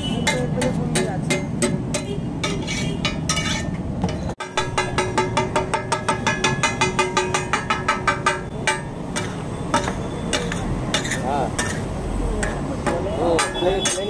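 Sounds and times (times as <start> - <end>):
metal spatula striking iron griddle: 0.0 - 14.0
spatula scraping griddle: 0.3 - 3.8, 4.6 - 12.6.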